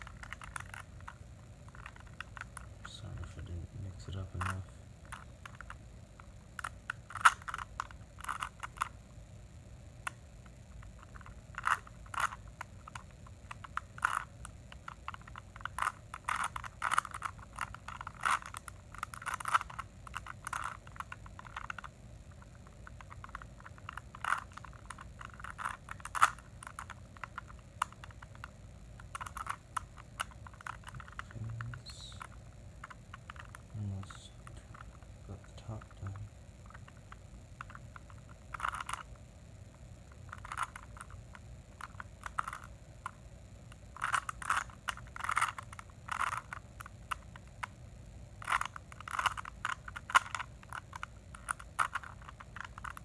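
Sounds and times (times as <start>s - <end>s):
plastic puzzle cube clicking: 0.0s - 2.7s, 4.1s - 9.0s, 10.0s - 33.7s, 34.4s - 35.0s, 35.8s - 39.2s, 40.1s - 43.2s, 43.9s - 47.8s, 48.4s - 53.0s.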